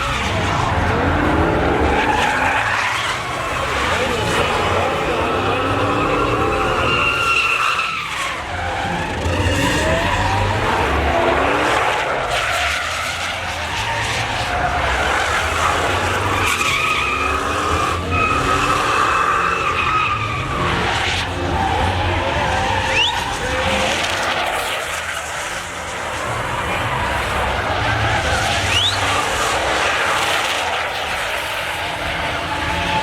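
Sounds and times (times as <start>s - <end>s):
engine revving: 0.0s - 33.0s
tires squealing: 0.0s - 33.0s.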